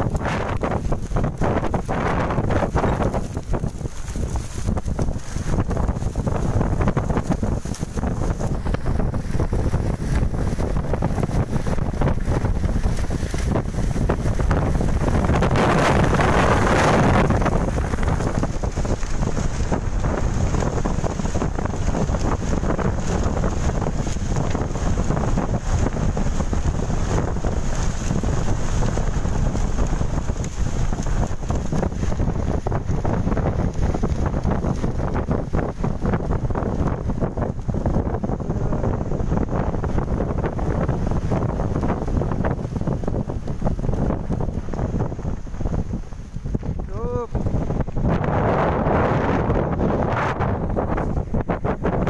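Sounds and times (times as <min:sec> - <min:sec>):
strong wind buffeting microphone: 0:00.0 - 0:52.0.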